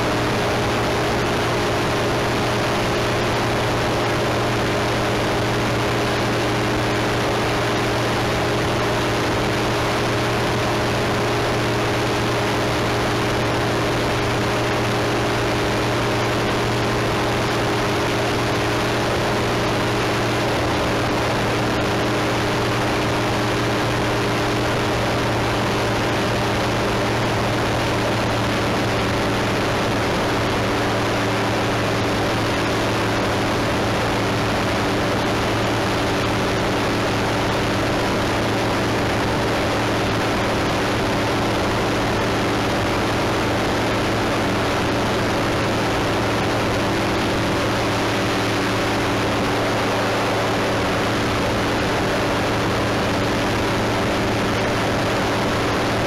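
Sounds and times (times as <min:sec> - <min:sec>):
propeller aircraft engine droning: 0:00.0 - 0:56.0.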